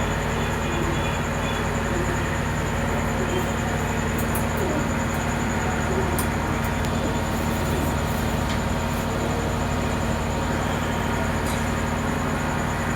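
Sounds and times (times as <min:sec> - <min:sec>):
low mechanical hum: 0:00.0 - 0:12.9.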